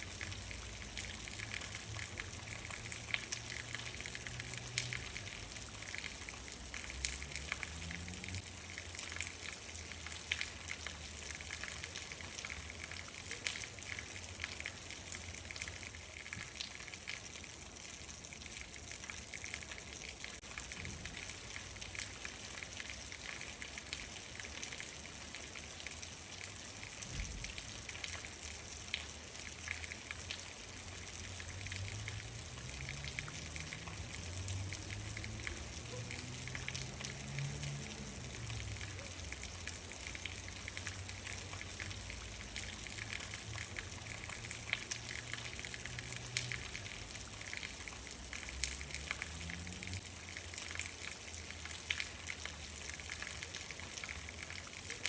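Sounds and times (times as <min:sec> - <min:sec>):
raindrops ticking: 0:00.0 - 0:55.0
steady rain hiss: 0:00.0 - 0:55.0.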